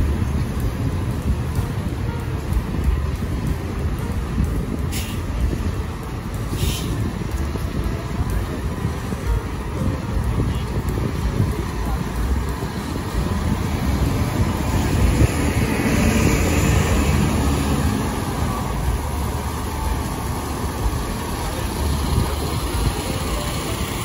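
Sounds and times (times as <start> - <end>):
car and bus engines idling: 0.0 - 24.0.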